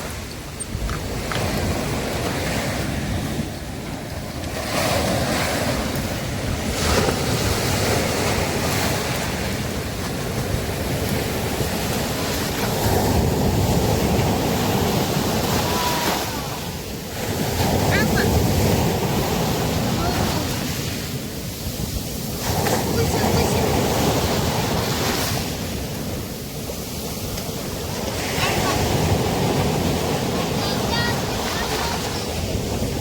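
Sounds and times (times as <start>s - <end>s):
waves breaking on beach: 0.0s - 33.0s
wind rumbling on microphone: 0.0s - 33.0s.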